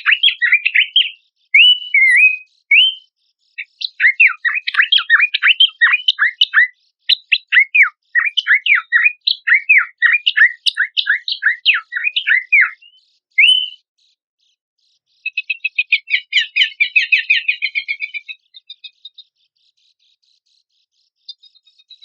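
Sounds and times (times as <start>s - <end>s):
bird whistling and chattering: 0.0s - 13.8s, 15.2s - 19.2s.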